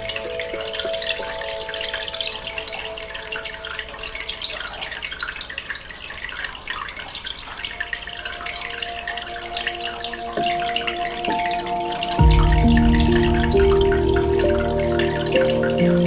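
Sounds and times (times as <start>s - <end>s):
soft sustained music tones: 0.0s - 16.0s.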